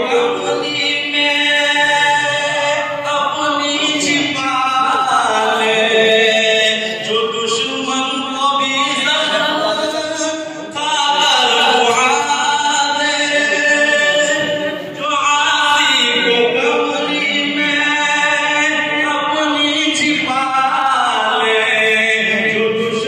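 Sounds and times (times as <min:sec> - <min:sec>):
man singing through loudspeakers: 0:00.0 - 0:23.0.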